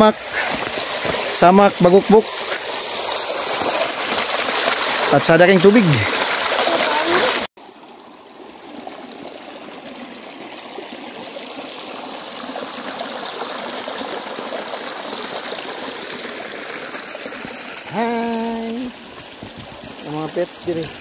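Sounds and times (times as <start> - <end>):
stream rippling over stones: 0.0 - 21.0.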